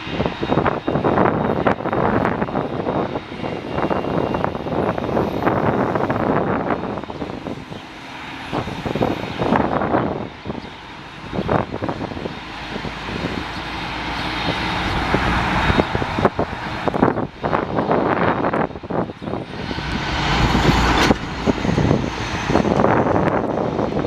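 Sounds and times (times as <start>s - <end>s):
airliner engines roaring: 0.0s - 24.0s
wind buffeting microphone: 0.0s - 24.0s.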